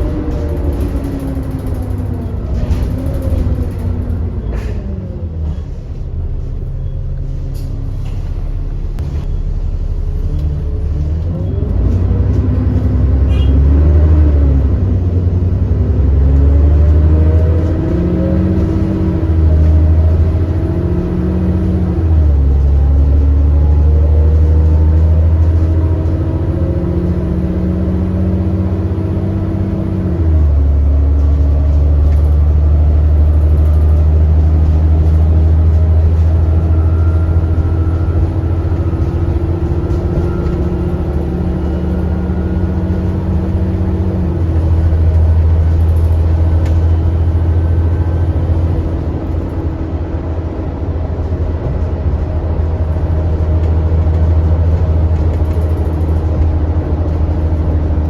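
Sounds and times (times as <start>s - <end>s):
bus engine pulling: 0.0s - 58.0s.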